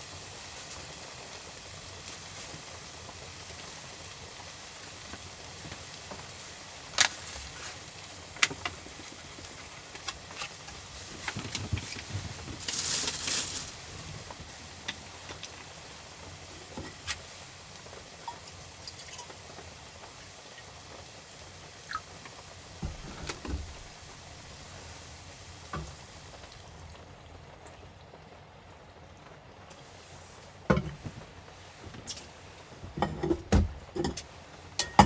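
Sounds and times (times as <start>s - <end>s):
rain pattering on camper roof: 0.0s - 35.0s.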